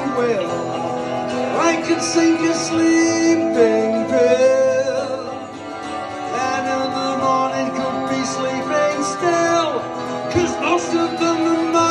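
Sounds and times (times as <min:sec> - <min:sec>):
acoustic guitar strumming: 0:00.0 - 0:11.9
electric guitar bending notes: 0:00.0 - 0:11.9.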